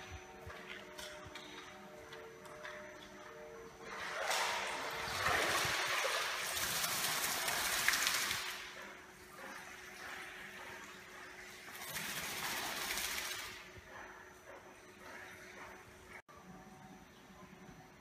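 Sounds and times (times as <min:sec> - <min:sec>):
water splashing and sloshing: 0:00.5 - 0:16.2.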